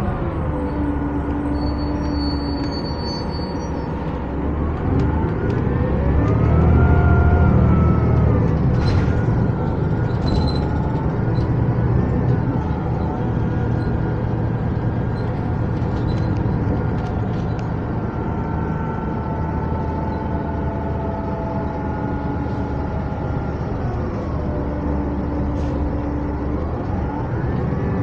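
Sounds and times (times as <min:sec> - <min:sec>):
bus engine low rumble: 0:00.0 - 0:28.0
drivetrain whine: 0:00.0 - 0:28.0.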